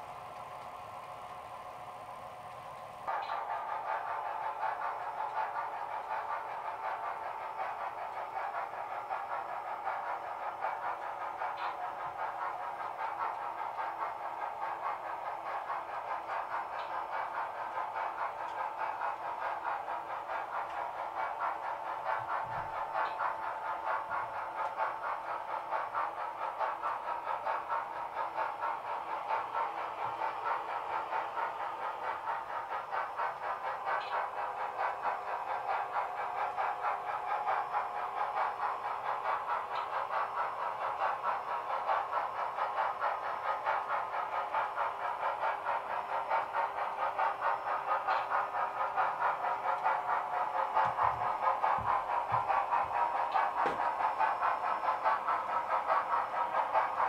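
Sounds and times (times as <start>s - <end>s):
model train rolling on track: 0.0s - 57.0s.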